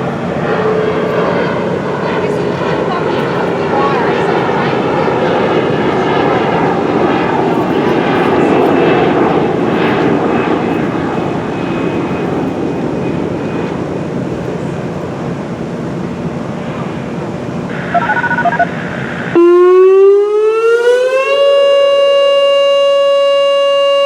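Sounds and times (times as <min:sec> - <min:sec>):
airplane roaring overhead: 0:00.0 - 0:22.1.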